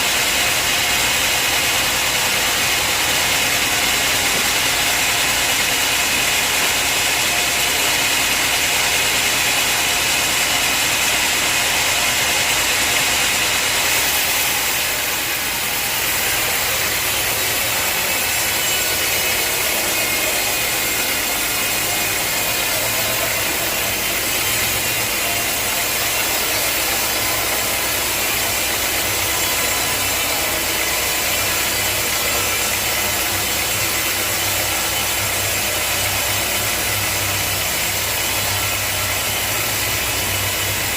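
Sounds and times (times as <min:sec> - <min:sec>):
saw cutting wood: 0:00.0 - 0:40.9.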